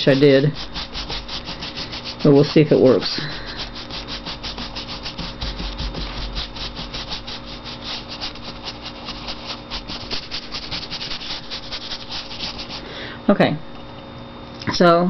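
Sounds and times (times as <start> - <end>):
paintbrush scrubbing on paper: 0.0 - 12.9.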